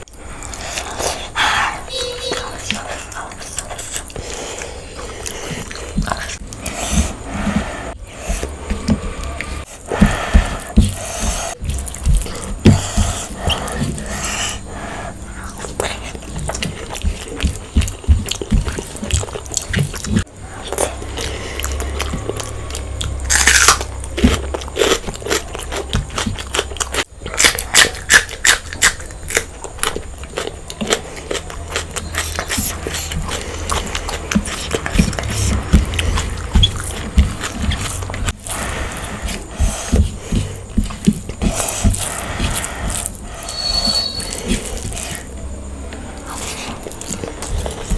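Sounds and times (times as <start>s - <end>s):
chewing and crunching: 0.0s - 47.9s.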